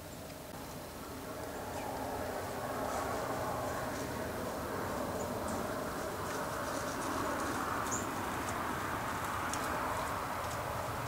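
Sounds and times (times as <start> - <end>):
low background rush: 0.0 - 11.0
small birds chipping: 0.0 - 11.0.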